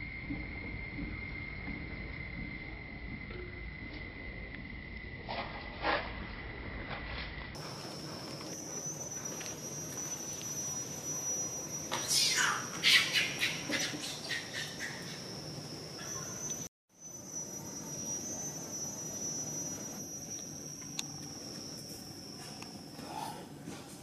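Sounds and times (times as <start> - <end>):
short insect chirps: 0.0 - 23.0
high-pitched insect drone: 0.0 - 23.4.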